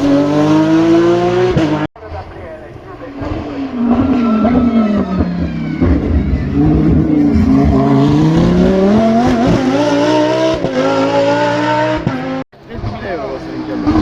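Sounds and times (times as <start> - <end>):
engine upshifts: 0.0 - 14.0
race car engine accelerating: 0.0 - 14.0.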